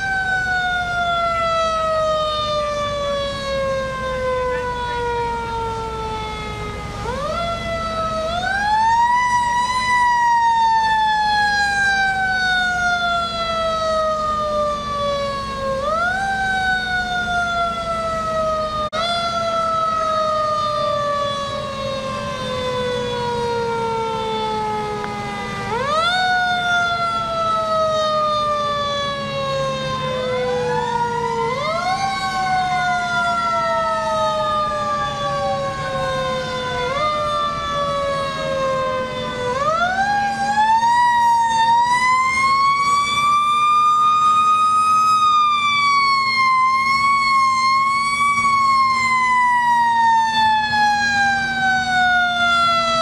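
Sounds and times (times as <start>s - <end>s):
engine hum: 0.0s - 53.0s
fire truck siren wailing: 0.0s - 53.0s.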